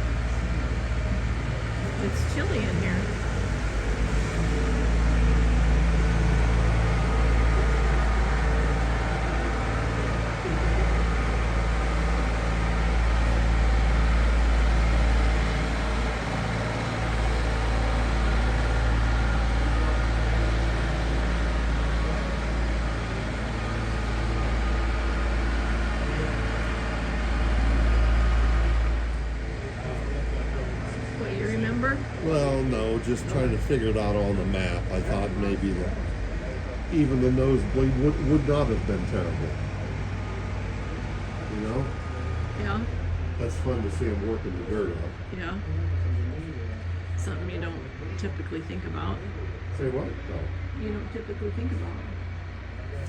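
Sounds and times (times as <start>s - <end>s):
constant hum: 0.0s - 53.0s
crowd chatter: 0.0s - 53.0s.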